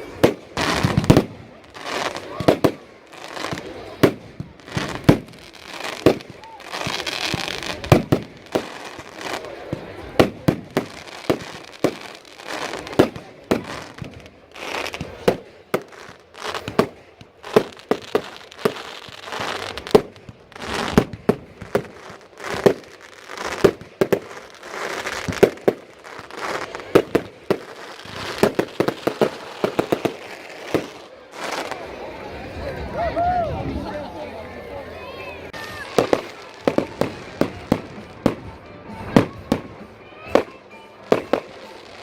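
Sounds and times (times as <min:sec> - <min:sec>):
fireworks bangs: 0:00.0 - 0:32.4, 0:35.5 - 0:42.0.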